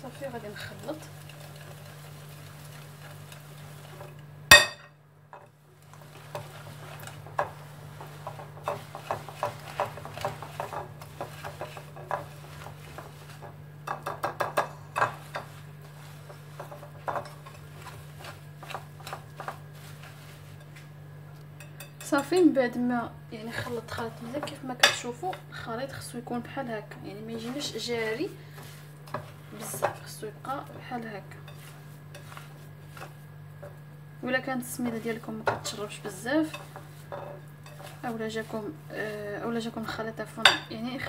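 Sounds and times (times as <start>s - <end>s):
whisk scraping and clinking bowl: 0.1s - 4.8s, 5.9s - 20.9s, 21.6s - 22.4s, 27.3s - 33.8s, 34.7s - 40.8s.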